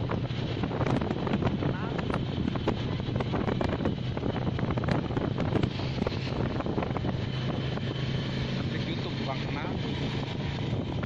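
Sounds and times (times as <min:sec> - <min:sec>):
low motorcycle engine hum: 0:00.0 - 0:11.0
wind rushing over microphone: 0:00.0 - 0:11.0.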